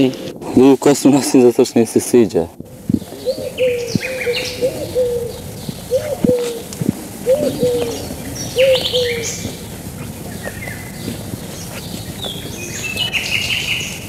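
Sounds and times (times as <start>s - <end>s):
small birds chirping: 1.0s - 14.0s
dove cooing: 2.6s - 14.0s.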